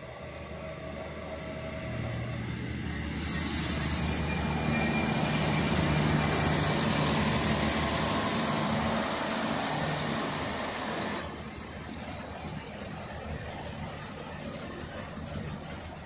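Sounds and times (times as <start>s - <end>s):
diesel engine running: 0.0s - 16.0s
wheel and track noise: 0.0s - 16.0s.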